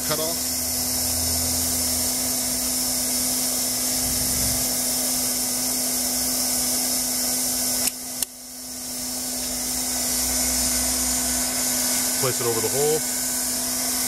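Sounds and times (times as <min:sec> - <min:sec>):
blower motor whirring: 0:00.0 - 0:14.0.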